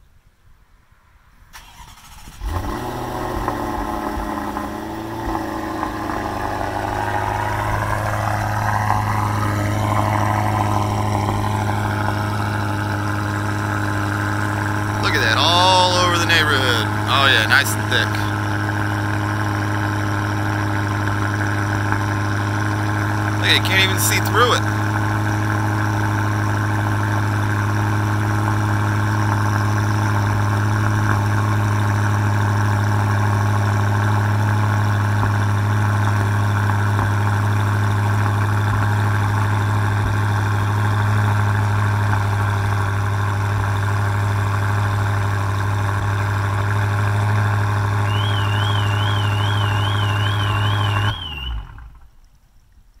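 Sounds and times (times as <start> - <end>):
car engine idling: 1.6 - 52.4.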